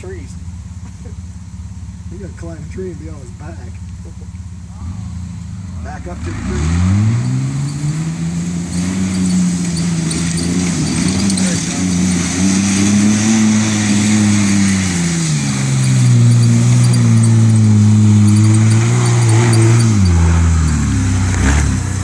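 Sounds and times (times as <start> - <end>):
engine running under load: 0.0 - 22.0.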